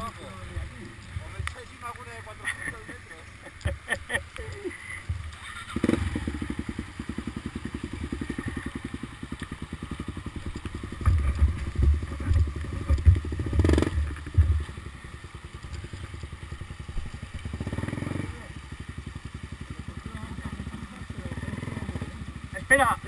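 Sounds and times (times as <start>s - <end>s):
motorcycle engine running at low revs: 0.0s - 23.0s.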